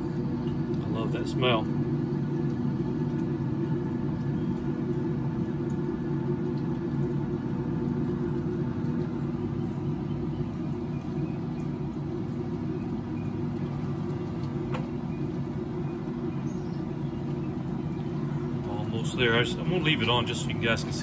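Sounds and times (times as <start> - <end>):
combustion fan humming: 0.0 - 21.0.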